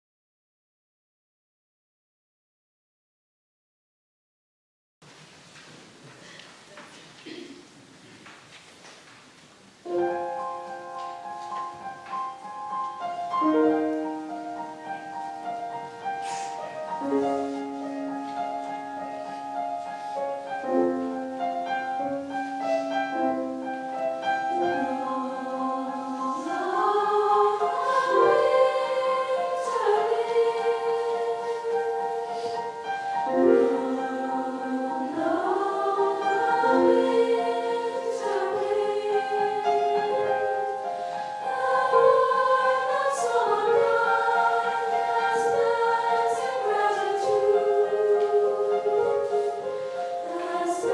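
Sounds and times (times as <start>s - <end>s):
choir singing sustained chords: 9.9s - 50.9s.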